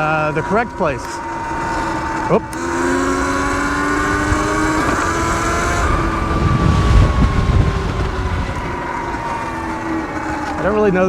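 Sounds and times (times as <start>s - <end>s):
electric dirt bike motor whine: 0.0s - 11.0s
wind buffeting microphone: 0.0s - 11.0s.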